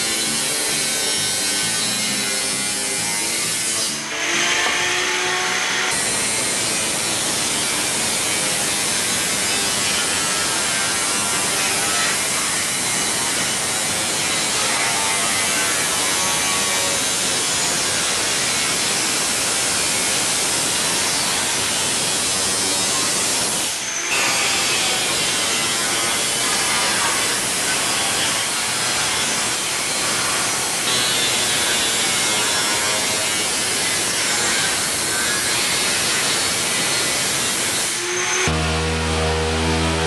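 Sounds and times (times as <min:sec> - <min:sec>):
angle grinder cutting steel: 0:00.0 - 0:40.0.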